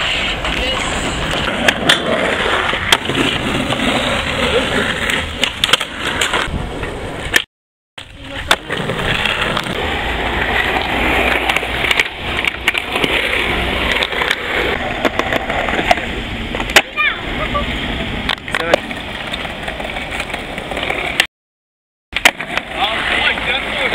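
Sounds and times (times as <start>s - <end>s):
skateboard clacks: 0.0s - 9.8s, 10.4s - 17.1s, 18.2s - 21.3s, 22.2s - 23.9s
skateboard wheels rolling on concrete: 0.0s - 21.3s, 22.2s - 23.9s.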